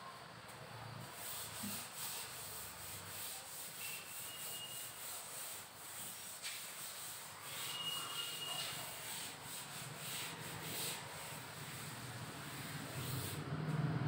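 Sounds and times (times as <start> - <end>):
cloth rubbing chalkboard: 1.0 - 13.5.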